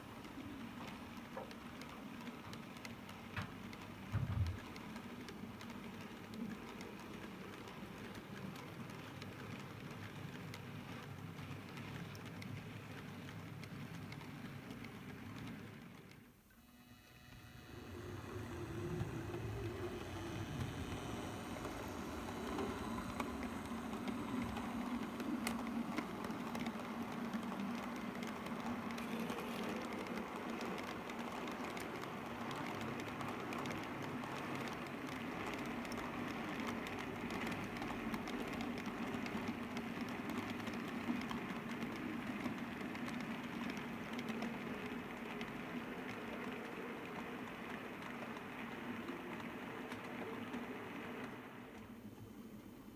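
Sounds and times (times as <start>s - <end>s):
wheels clicking over rail joints: 0.0s - 16.4s, 17.7s - 52.7s
model train running hum: 0.0s - 52.9s.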